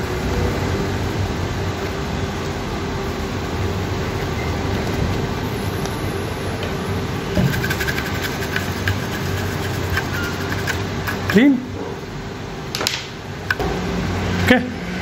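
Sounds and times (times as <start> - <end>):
hot-air station blowing: 0.0 - 12.6.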